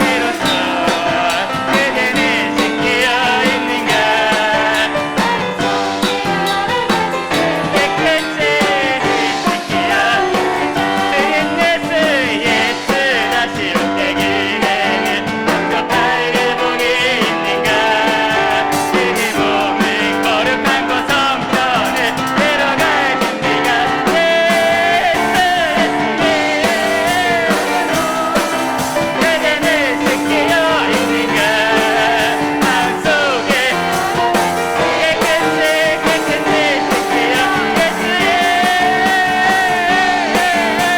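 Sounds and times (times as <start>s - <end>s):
drums: 0.0s - 40.9s
people singing: 0.0s - 40.9s
piano: 0.0s - 40.9s.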